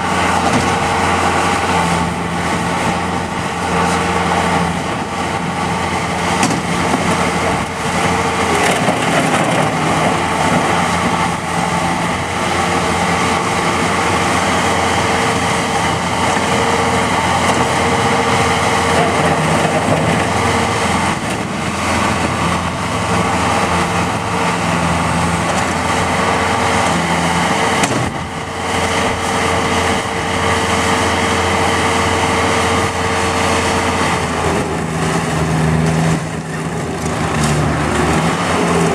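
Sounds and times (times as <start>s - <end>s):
skid steer diesel engine running: 0.0s - 38.9s.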